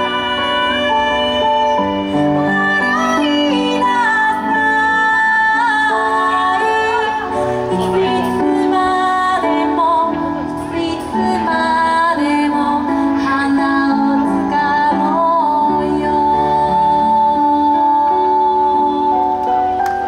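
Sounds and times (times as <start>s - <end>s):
woman singing: 0.0s - 19.8s
instrumental backing: 0.0s - 20.0s.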